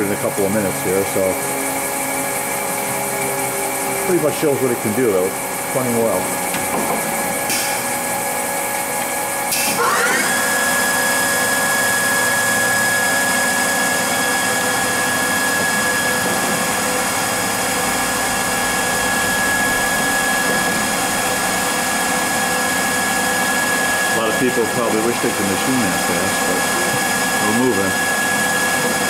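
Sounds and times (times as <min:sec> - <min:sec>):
lathe spindle whine: 0:00.0 - 0:29.0.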